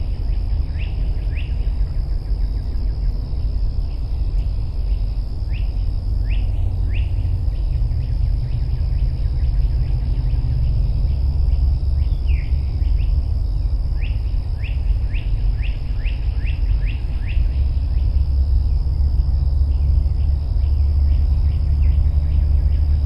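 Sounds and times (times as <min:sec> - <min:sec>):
songbird chirping: 0:00.0 - 0:18.6
high-pitched insect drone: 0:00.0 - 0:23.0.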